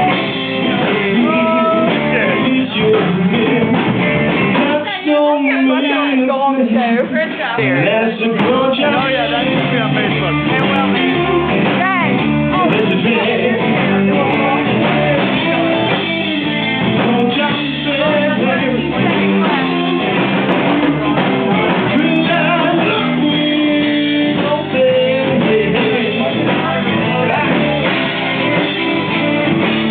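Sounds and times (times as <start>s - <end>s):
guitar: 0.0s - 29.9s
person singing: 0.0s - 29.9s.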